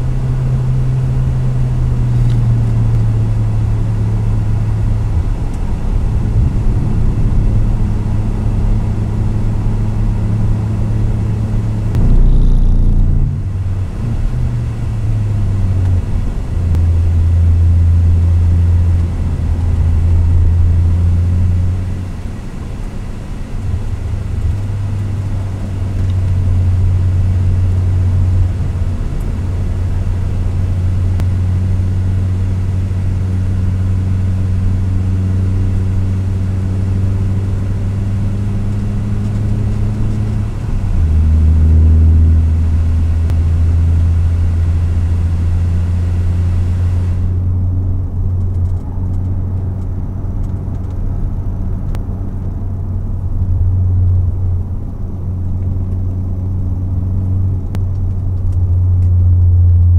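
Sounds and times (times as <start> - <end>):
race car engine droning: 0.0 - 59.9.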